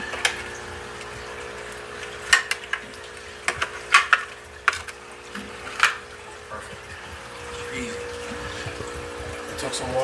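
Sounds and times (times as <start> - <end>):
filter outflow splashing: 0.0 - 10.0.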